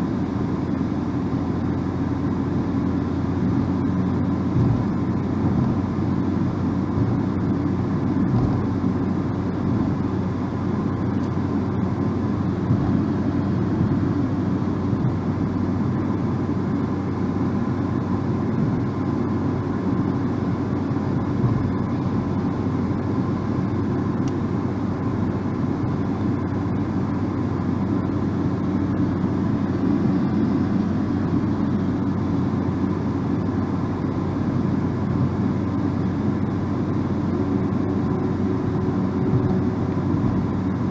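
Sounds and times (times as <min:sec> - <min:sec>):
car engine hum: 0:00.0 - 0:40.9
road and tyre noise: 0:00.0 - 0:40.9.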